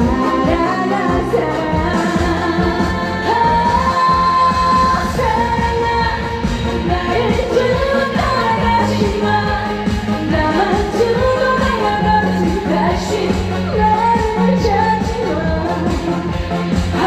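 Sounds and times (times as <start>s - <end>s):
person singing: 0.0s - 16.4s.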